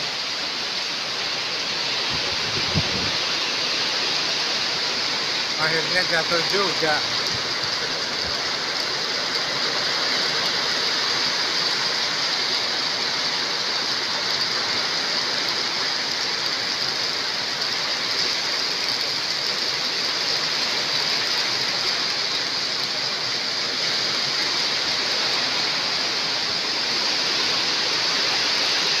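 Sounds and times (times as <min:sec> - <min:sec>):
heavy rain hissing: 0:00.0 - 0:29.0.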